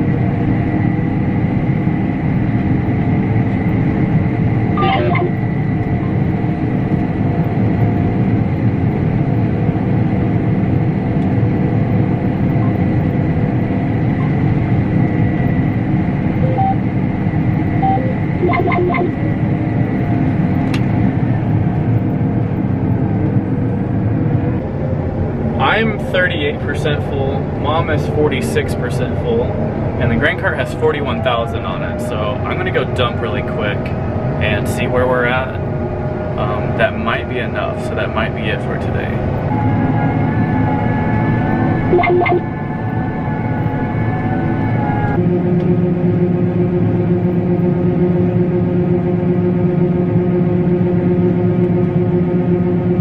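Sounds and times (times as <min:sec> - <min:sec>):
harvest machinery engine drone: 0:00.0 - 0:53.0
steady high machine whine: 0:00.0 - 0:53.0.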